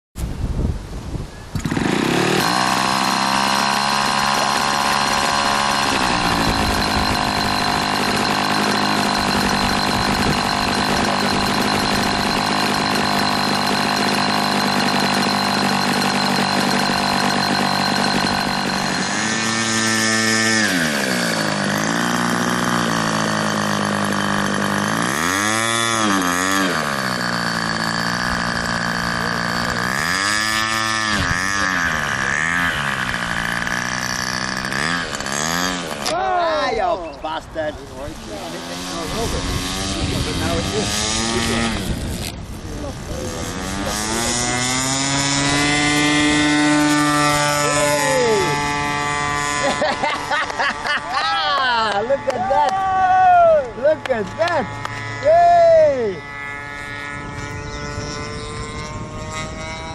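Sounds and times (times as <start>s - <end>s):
model aircraft engine running: 1.5s - 59.9s.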